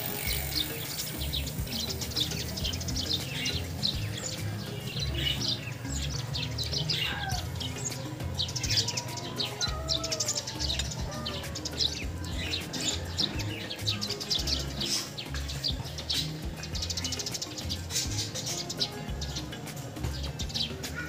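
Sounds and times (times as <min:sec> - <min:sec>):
background music with low beat: 0:00.0 - 0:21.0
small birds chirping: 0:00.0 - 0:21.0.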